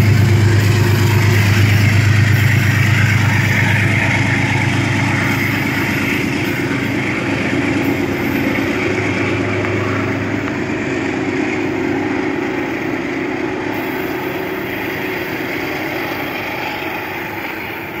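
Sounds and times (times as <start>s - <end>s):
low held drone: 0.0s - 18.0s
train locomotive hum: 0.0s - 18.0s.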